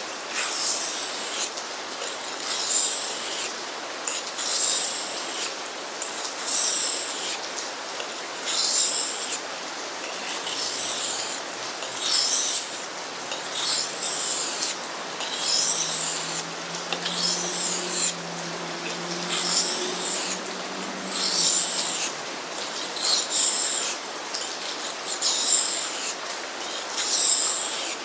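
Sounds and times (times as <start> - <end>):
knife rasping on whetstone: 0.4 - 3.5, 4.1 - 5.5, 6.1 - 7.4, 8.1 - 9.4, 10.1 - 28.0.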